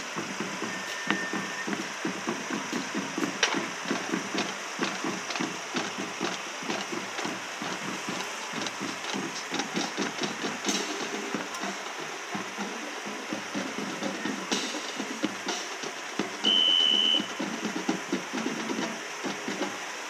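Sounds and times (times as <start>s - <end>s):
marching drumline cadence: 0.0s - 20.0s.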